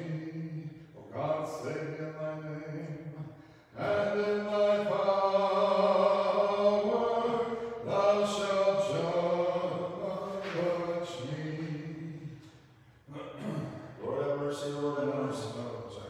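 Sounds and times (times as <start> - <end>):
unaccompanied liturgical chant: 0.0 - 16.0.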